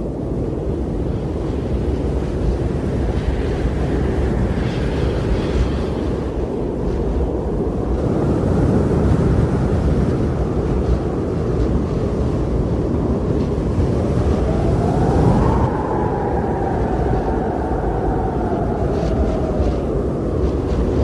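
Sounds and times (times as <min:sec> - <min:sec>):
strong blizzard wind: 0:00.0 - 0:21.0
whistling howl of wind: 0:00.0 - 0:21.0.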